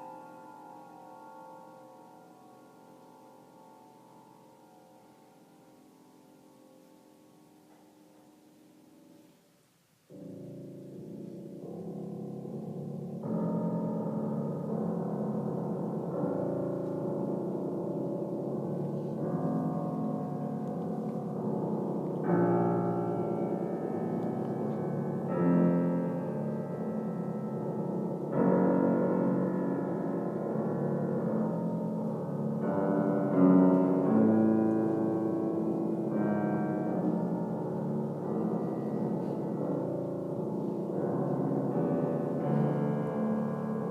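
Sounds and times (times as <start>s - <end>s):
solo piano slow chords: 0.0s - 43.9s.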